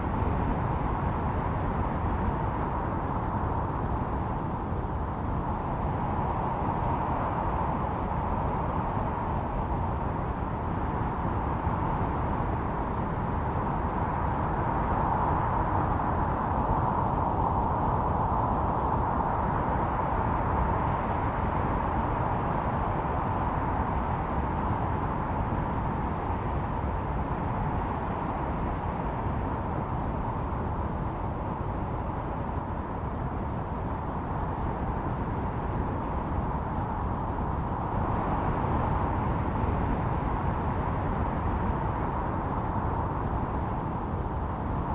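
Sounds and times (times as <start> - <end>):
blizzard wind howling: 0.0 - 44.9.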